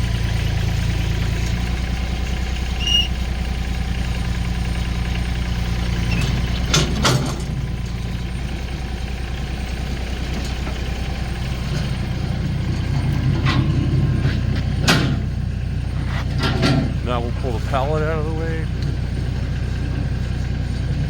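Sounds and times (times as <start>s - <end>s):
tractor diesel idling: 0.0s - 21.0s.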